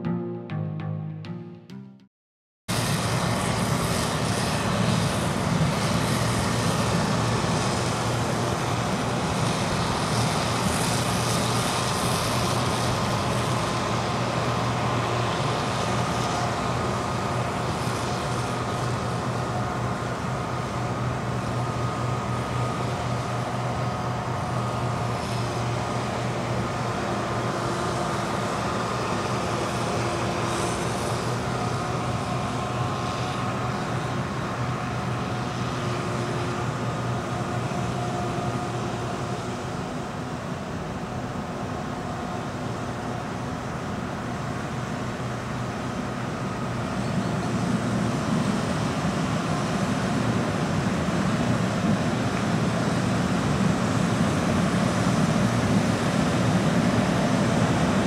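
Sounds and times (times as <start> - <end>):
combine harvester droning: 2.7 - 58.0.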